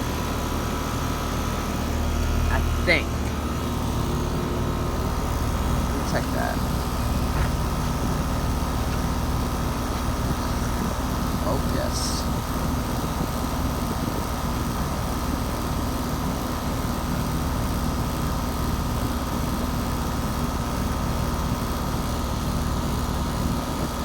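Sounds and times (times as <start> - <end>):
compressor low hum: 0.0 - 24.0
condenser fan rushing: 0.0 - 24.0.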